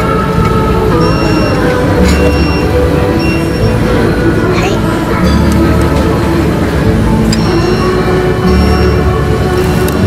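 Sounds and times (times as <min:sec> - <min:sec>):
music with heavy low bass: 0:00.0 - 0:10.0.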